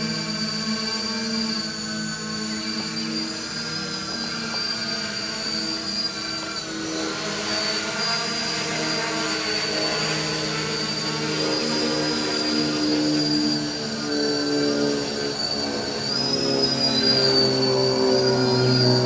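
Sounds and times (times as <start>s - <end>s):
drone propeller hum: 0.0s - 19.0s
high motor whine: 0.0s - 19.0s.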